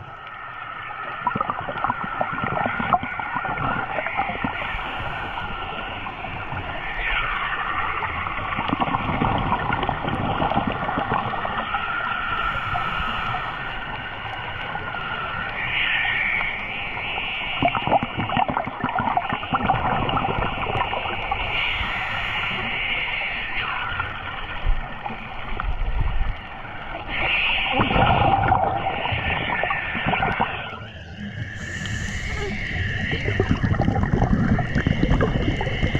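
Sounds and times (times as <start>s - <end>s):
diver's regulator bubbles gurgling: 0.0s - 35.9s
steady hiss with wavering whine: 0.0s - 35.9s.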